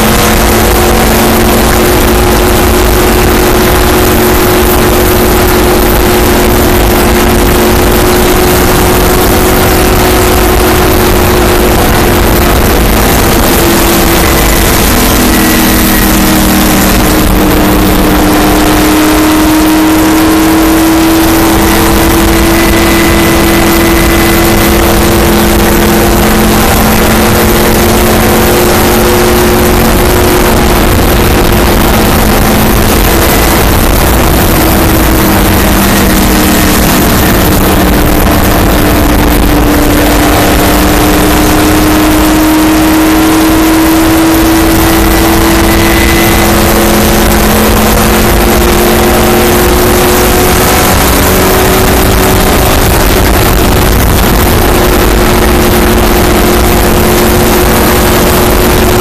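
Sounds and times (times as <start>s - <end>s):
race car engine droning: 0.0s - 59.0s
wind and road noise: 0.0s - 59.0s.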